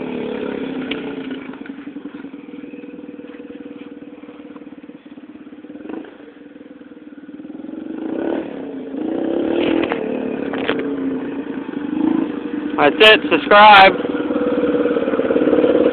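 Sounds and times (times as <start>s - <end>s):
dirt bike engine running: 0.0s - 15.9s.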